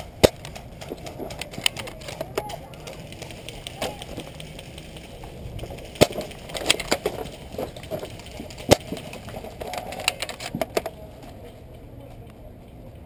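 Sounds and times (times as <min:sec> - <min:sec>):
sharp cracks and snaps: 0:00.0 - 0:11.0.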